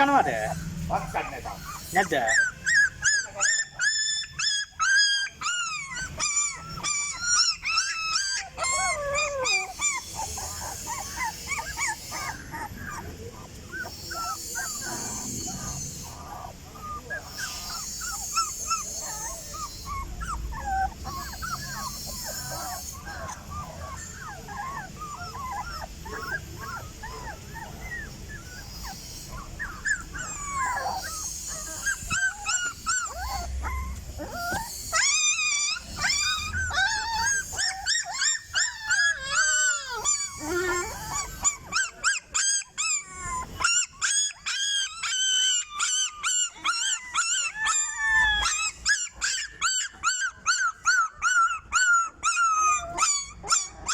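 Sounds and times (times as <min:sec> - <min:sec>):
dog whining and howling: 0:00.0 - 0:53.9.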